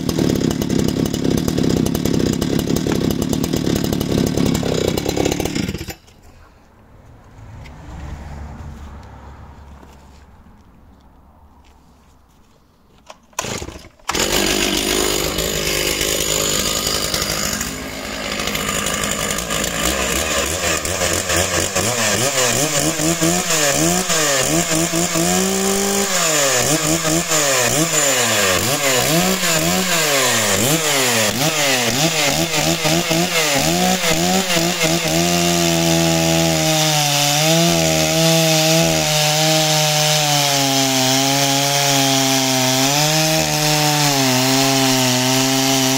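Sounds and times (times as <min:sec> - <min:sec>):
chainsaw cutting through log: 0:00.0 - 0:06.2, 0:13.4 - 0:45.9
chainsaw revving: 0:00.0 - 0:06.2, 0:13.4 - 0:45.9.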